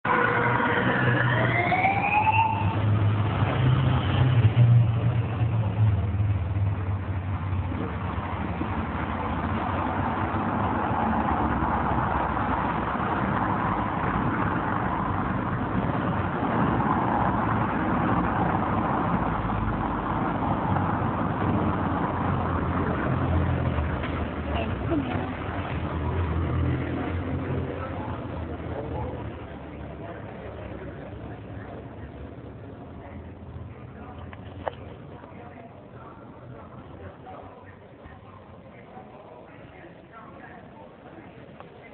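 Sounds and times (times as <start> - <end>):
vehicles passing on road: 0.0 - 41.9
steady rushing noise: 0.1 - 34.0.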